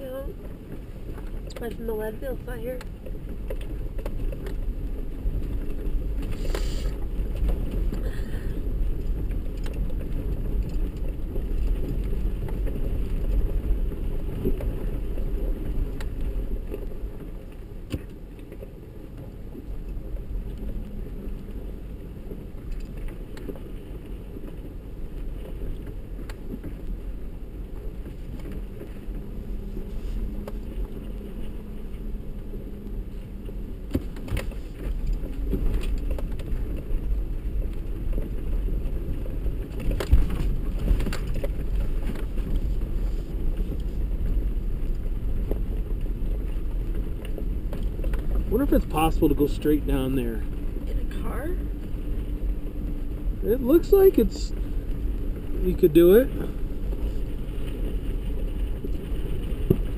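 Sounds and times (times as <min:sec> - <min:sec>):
engine running: 0:00.0 - 0:59.9
vehicle clicks and knocks: 0:00.4 - 0:53.3.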